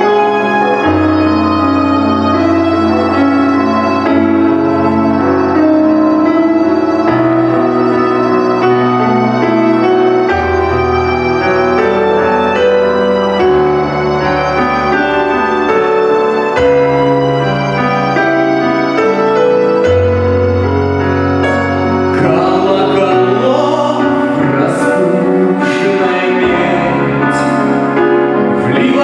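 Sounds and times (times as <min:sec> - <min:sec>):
keyboard chords over bass: 0:00.0 - 0:29.0.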